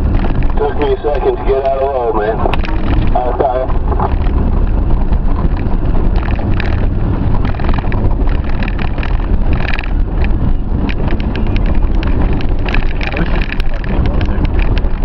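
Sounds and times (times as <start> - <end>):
knocks and rattles: 0.0 - 0.9, 2.2 - 15.0
vehicle engine under load: 0.0 - 15.0
wind buffeting microphone: 0.0 - 15.0.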